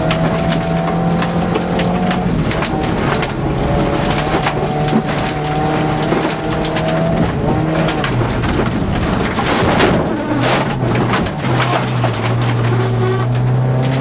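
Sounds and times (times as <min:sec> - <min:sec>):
rally car engine at high revs: 0:00.0 - 0:14.0
stones rattling against underside: 0:00.0 - 0:14.0.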